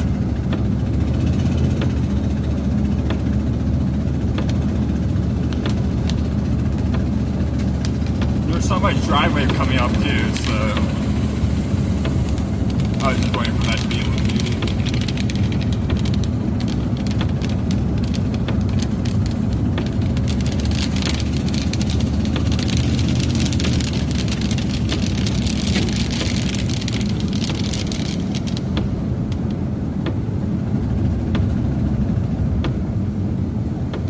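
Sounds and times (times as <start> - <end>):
car cabin rumble: 0.0 - 34.0
raindrops ticking on windshield: 0.0 - 34.0.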